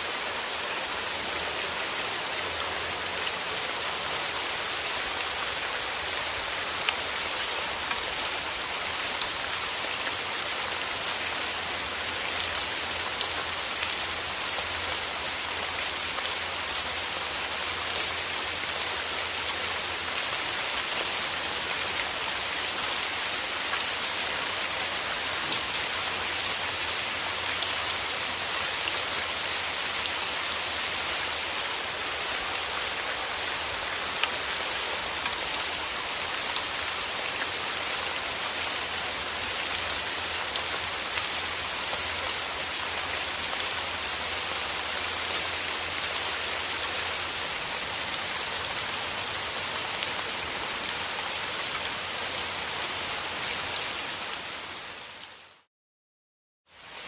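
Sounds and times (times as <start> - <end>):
steady rain hiss: 0.0 - 55.7.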